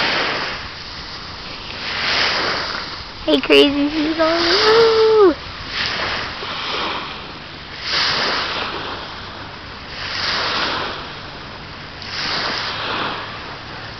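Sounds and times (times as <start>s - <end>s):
small waves washing onto shore: 0.0s - 13.9s.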